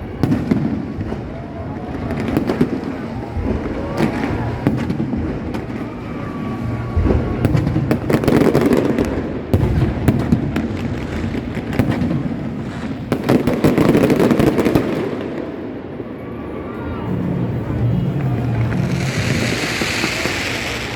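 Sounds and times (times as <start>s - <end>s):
fireworks bangs and crackles: 0.0s - 20.9s.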